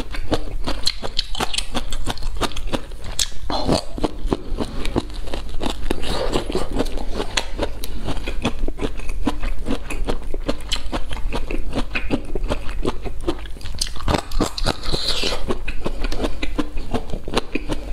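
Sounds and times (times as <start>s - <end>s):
crunchy chewing: 0.0s - 17.9s.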